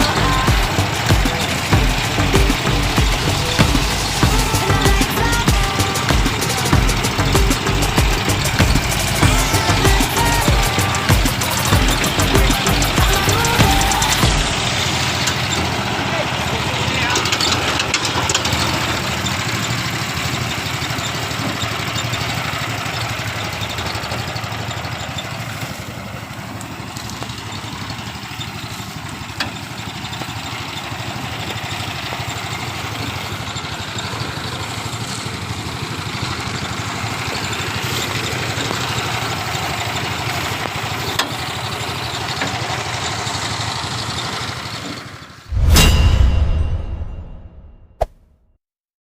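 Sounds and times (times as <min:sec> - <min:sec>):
small engine running: 0:00.0 - 0:45.6
dense mechanical noise: 0:00.0 - 0:47.3.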